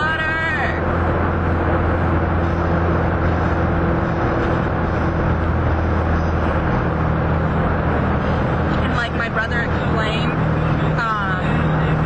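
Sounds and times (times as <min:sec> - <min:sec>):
car engine drone: 0:00.0 - 0:12.0
road and tyre noise echoing: 0:00.0 - 0:12.0.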